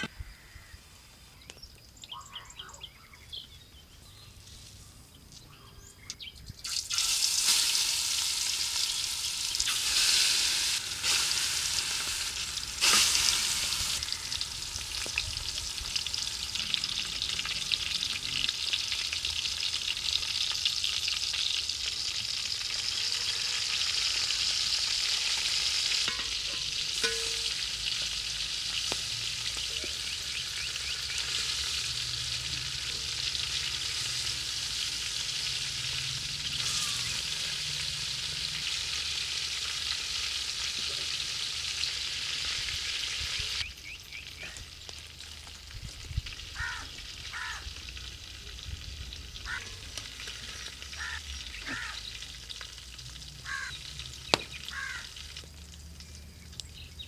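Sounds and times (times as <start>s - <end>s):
food sizzling in hot oil: 6.6s - 57.0s.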